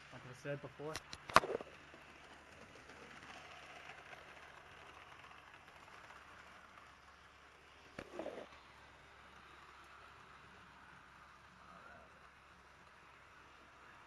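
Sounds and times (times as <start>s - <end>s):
model train wheels rolling: 0.0s - 14.0s.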